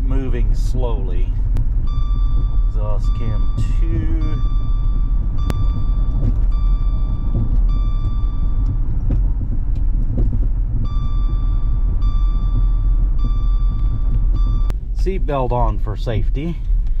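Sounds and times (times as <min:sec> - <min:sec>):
seatbelt reminder chime: 0:00.0 - 0:14.7
road and engine rumble: 0:00.0 - 0:17.0.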